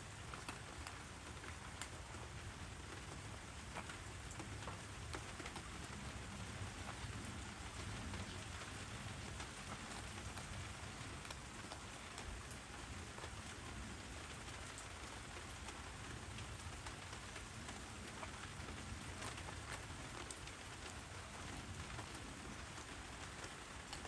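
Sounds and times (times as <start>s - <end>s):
raindrops ticking on surfaces: 0.0s - 24.0s
steady rain falling: 0.0s - 24.0s.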